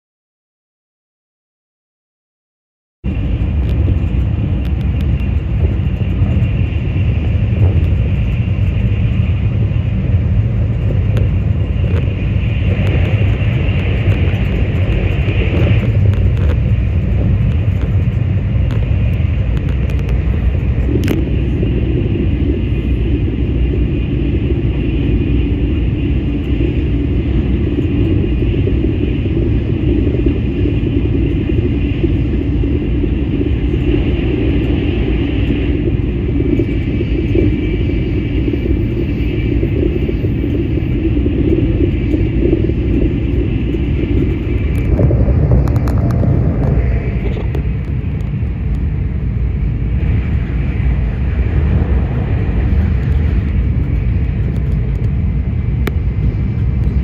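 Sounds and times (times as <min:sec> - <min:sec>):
train rumble inside cabin: 0:03.0 - 0:57.0.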